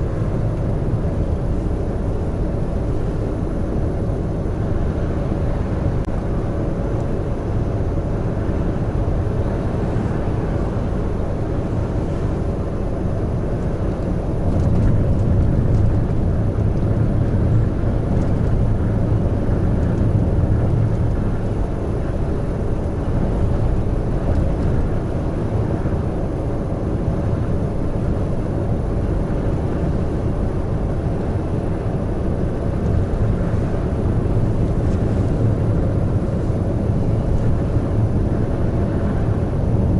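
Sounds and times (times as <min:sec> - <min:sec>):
heavy truck engine and tyre rumble: 0:00.0 - 0:39.9.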